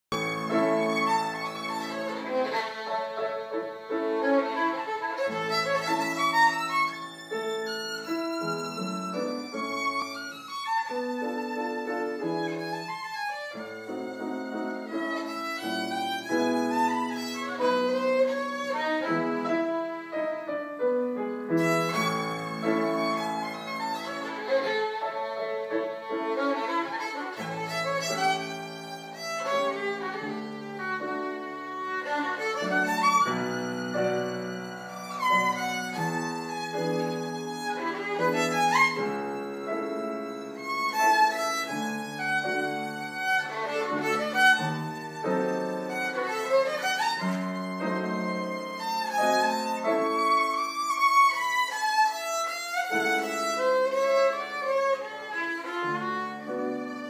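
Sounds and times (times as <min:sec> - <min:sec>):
violin melody: 0:00.0 - 0:57.0
grand piano accompaniment: 0:00.1 - 0:57.0.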